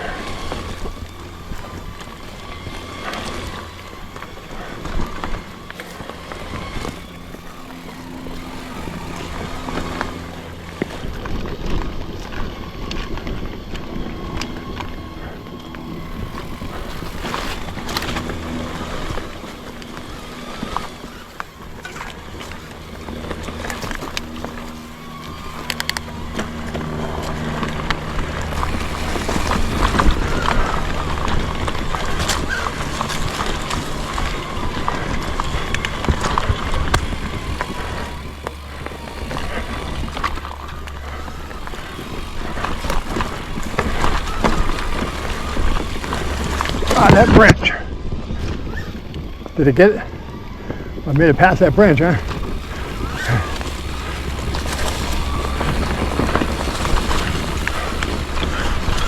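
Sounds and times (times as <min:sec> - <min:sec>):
low hum shifting pitch: 0:00.0 - 0:59.0
mountain bike rattling over ground: 0:00.0 - 0:59.0.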